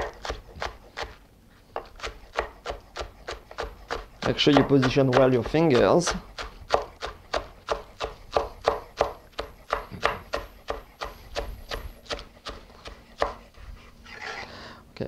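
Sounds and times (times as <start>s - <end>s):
knife chopping on wooden board: 0.0s - 1.2s, 1.8s - 13.4s.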